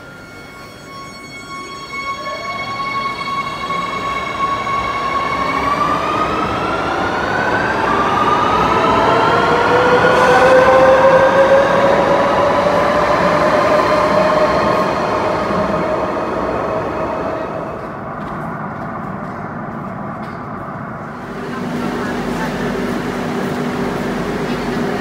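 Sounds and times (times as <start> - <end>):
electric train accelerating past: 0.0 - 19.8, 20.8 - 25.0.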